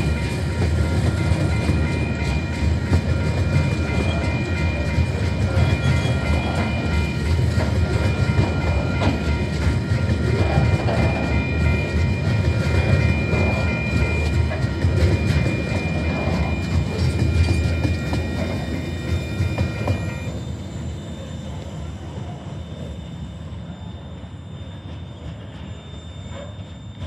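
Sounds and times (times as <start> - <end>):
freight train rumbling past: 0.0 - 27.0
steady high tone: 0.0 - 27.0.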